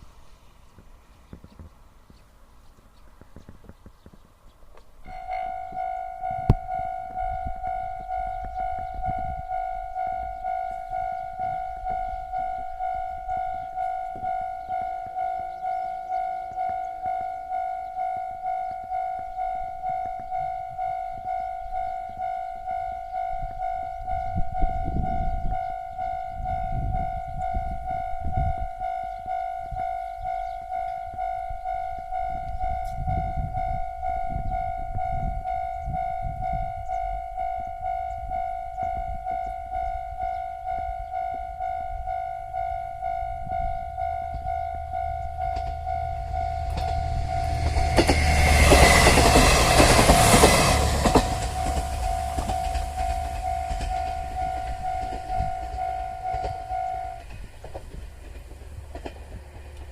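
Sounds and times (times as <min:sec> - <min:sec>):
diesel train passing rumble: 0:00.0 - 0:59.9
level crossing alarm ringing: 0:05.0 - 0:59.9.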